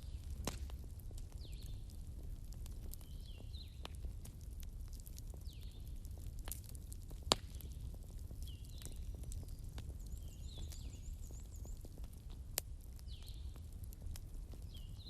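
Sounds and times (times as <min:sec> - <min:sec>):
wood crackling: 0:00.0 - 0:15.0.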